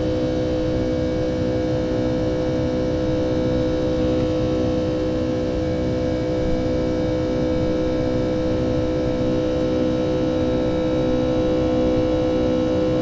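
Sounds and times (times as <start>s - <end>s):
jet engines drone in cabin: 0.0s - 13.0s.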